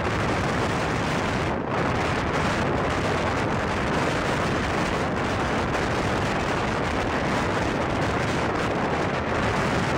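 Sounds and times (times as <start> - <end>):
wheel-on-rail rumble: 0.0 - 9.9
wind buffeting the microphone: 0.0 - 9.9
wind rushing: 0.0 - 9.9.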